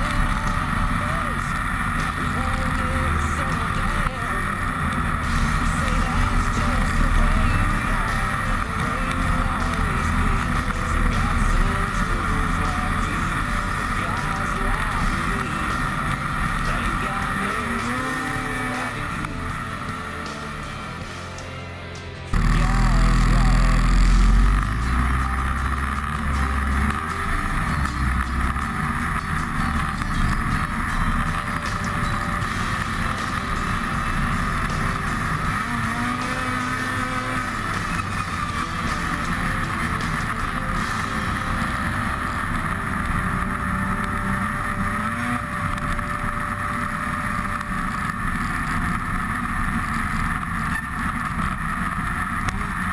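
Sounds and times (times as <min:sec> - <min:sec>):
rushing noise: 0:00.0 - 0:52.9
snowmobile engine droning: 0:00.0 - 0:52.9.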